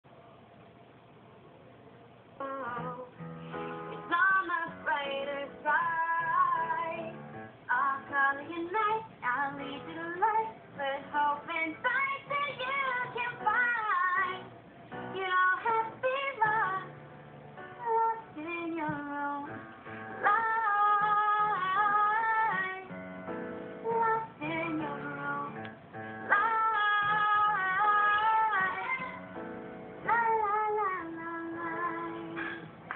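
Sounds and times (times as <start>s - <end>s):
woman singing a pop song: 2.4s - 3.3s, 3.9s - 14.5s, 15.1s - 17.0s, 17.8s - 23.1s, 23.8s - 29.4s, 30.0s - 32.8s.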